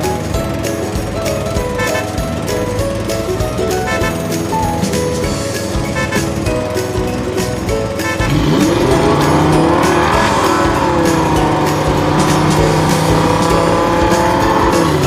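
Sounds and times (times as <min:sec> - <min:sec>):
car engine revving: 0:00.0 - 0:15.0
music with regular beat: 0:00.0 - 0:15.0.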